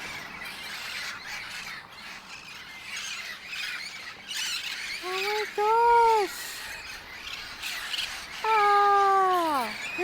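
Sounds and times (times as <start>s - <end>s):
flock of parrots squawking: 0.1s - 10.0s.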